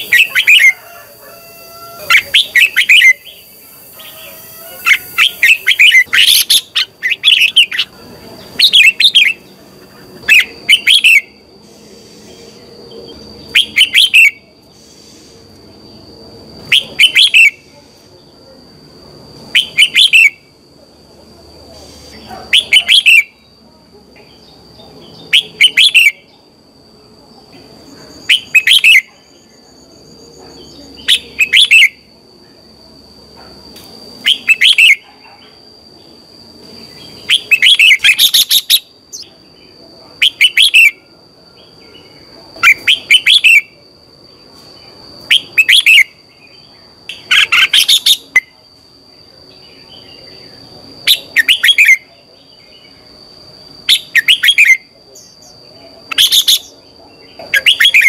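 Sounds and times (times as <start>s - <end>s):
bird chirping: 0.0s - 18.1s, 19.5s - 20.5s, 24.2s - 26.5s, 28.0s - 32.0s, 34.2s - 48.6s, 49.5s - 53.1s, 53.8s - 58.0s.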